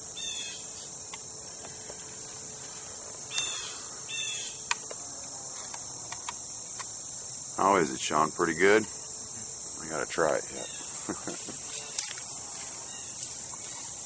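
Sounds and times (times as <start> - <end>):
crickets chorus: 0.0 - 14.0.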